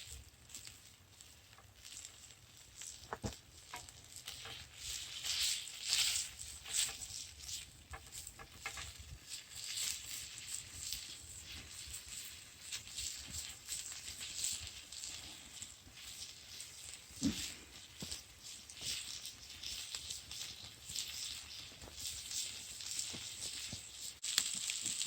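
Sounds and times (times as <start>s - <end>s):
campfire crackling and popping: 0.0s - 25.0s
fire hissing: 0.0s - 25.0s.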